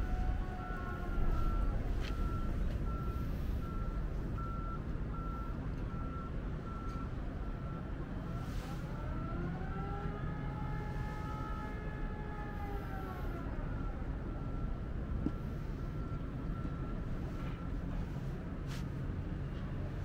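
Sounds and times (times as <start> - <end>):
low engine rumble: 0.0 - 20.0
vehicle reversing alarm beeping: 0.0 - 20.0.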